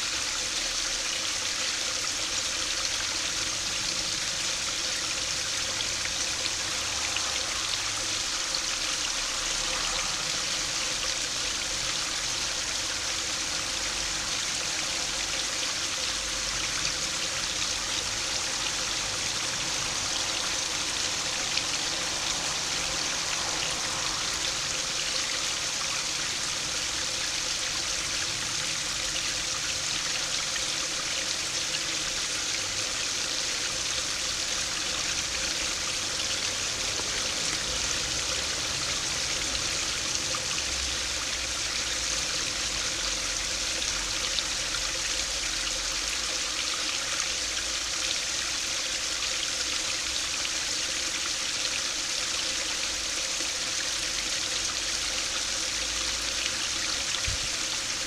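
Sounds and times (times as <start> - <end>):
stream splashing over weir: 0.0 - 58.0.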